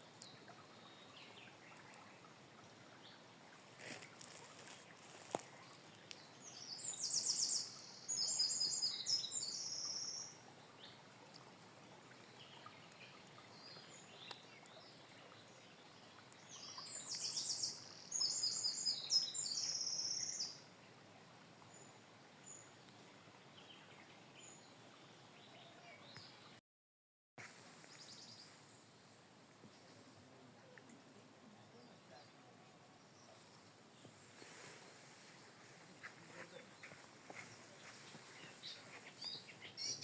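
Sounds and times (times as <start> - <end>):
faint background hiss: 0.0 - 26.5, 27.4 - 40.0.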